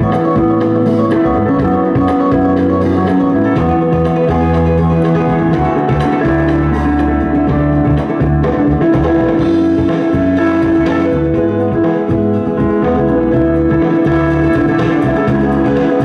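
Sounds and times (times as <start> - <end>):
music through a speaker: 0.0 - 16.0.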